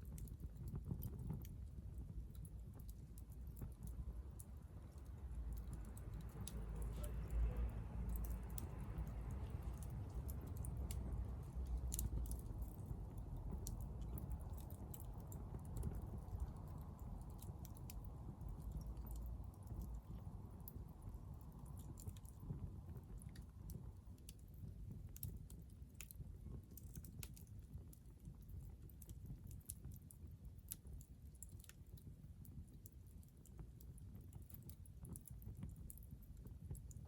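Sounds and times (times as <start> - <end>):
fire crackling and popping: 0.0 - 37.0
low fire rumble: 0.0 - 37.0.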